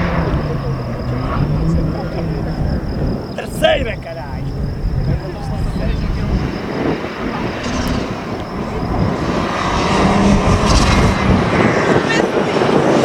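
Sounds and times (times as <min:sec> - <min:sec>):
rally car engine approaching: 0:00.0 - 0:13.0.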